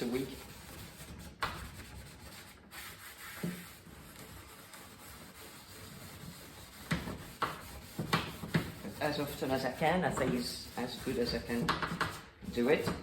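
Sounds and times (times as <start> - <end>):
cloth rubbing on wood: 0.0 - 13.0.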